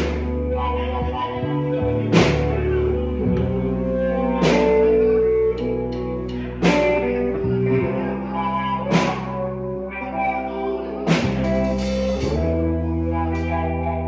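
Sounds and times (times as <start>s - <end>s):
bass line: 0.0s - 14.0s
electric guitar sustained notes: 0.0s - 14.0s.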